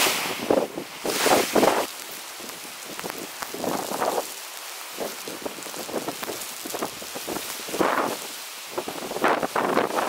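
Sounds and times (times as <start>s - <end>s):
seawater streaming over sand: 0.0s - 10.0s.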